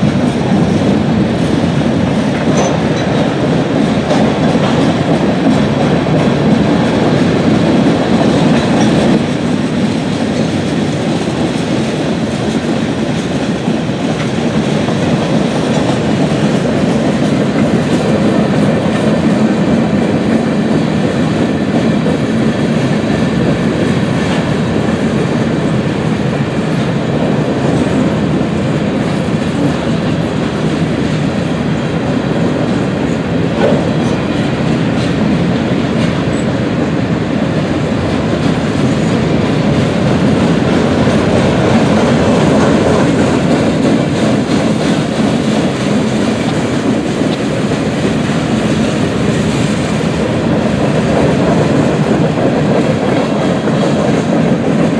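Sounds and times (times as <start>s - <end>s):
freight train wheels clattering: 0.0s - 54.9s.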